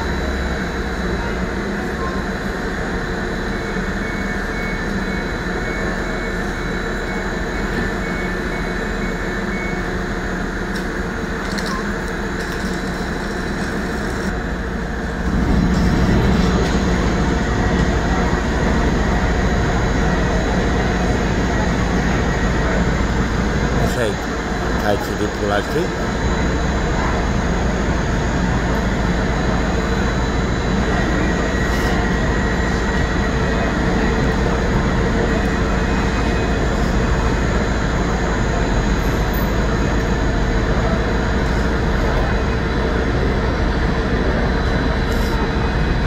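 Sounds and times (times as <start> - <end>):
diesel train engine running: 0.0 - 46.0.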